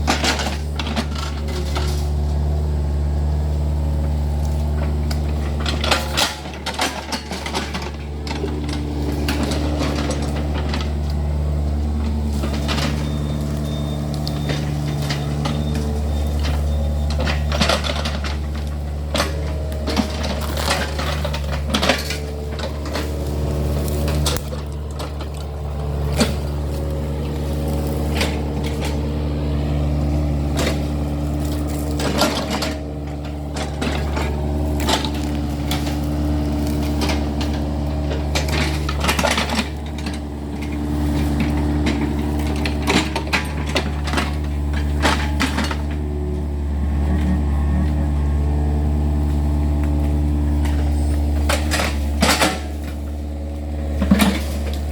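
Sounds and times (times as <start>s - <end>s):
bucket clanking and scraping: 0.0s - 2.6s, 4.6s - 54.9s
excavator diesel engine running: 0.0s - 54.9s.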